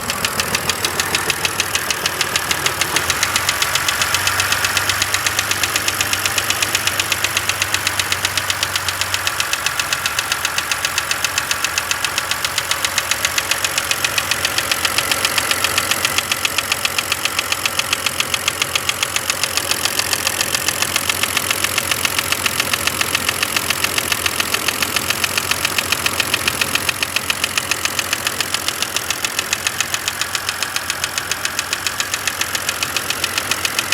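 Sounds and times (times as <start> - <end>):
car engine running: 0.0 - 33.9
fast even engine ticking: 0.0 - 33.9.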